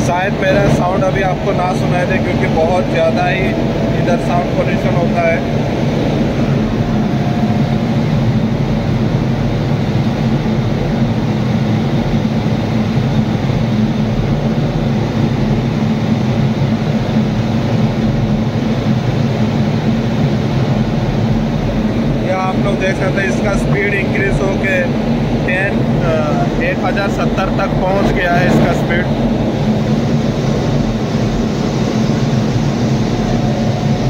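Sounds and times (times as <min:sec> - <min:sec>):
locomotive engine drone: 0:00.0 - 0:34.0.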